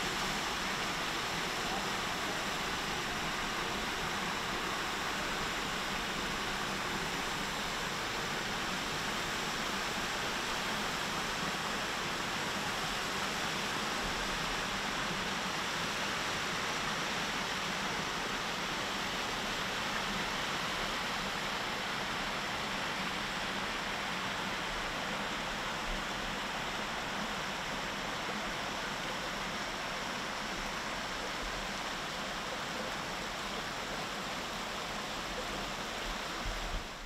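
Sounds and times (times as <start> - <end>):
stream cascading over rocks: 0.0 - 37.0.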